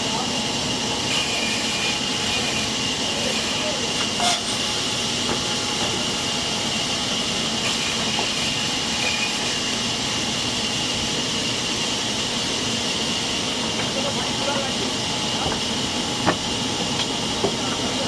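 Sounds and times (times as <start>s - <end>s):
sawmill saw running: 0.0s - 18.0s.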